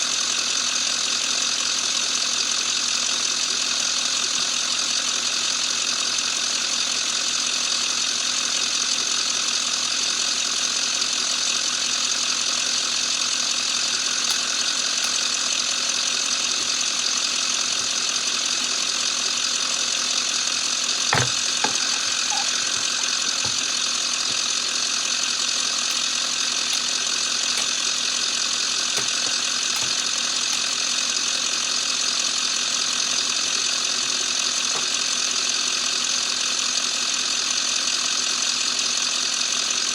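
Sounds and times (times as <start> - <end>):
ambulance engine idling: 0.0 - 39.9.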